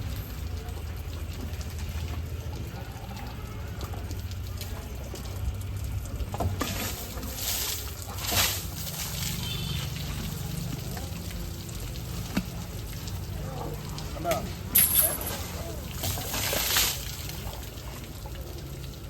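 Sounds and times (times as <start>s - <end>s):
water pouring and splashing: 0.0s - 19.0s.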